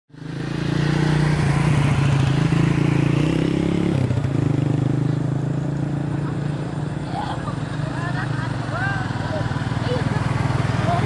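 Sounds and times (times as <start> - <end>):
motorcycle engines running: 0.1 - 11.0.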